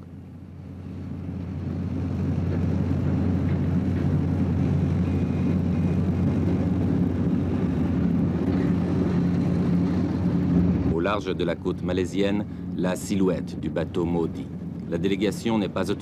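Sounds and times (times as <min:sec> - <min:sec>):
boat engine running at speed: 0:00.0 - 0:16.0.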